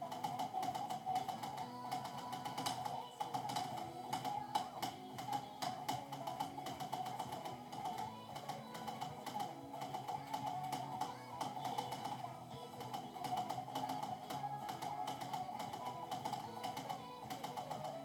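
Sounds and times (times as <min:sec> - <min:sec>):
music playing: 0:00.0 - 0:18.0.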